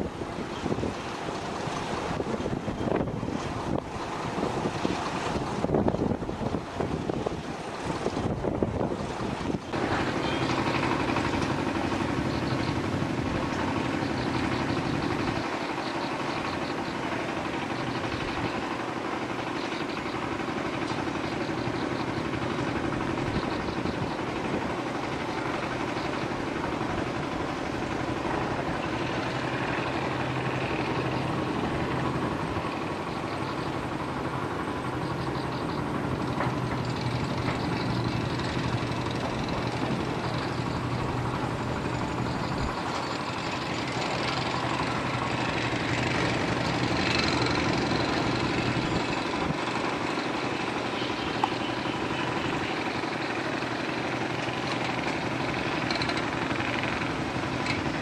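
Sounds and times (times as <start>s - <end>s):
heavy engine humming: 0.0s - 58.0s.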